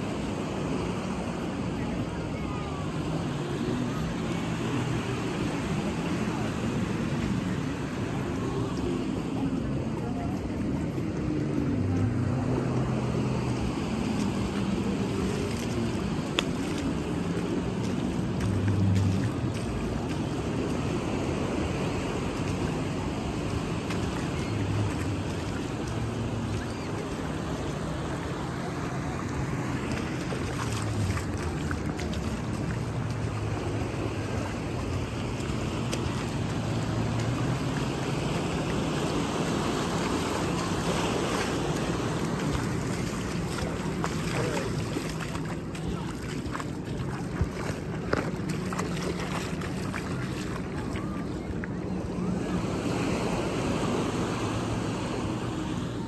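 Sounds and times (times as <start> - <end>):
surf washing: 0.0 - 56.0.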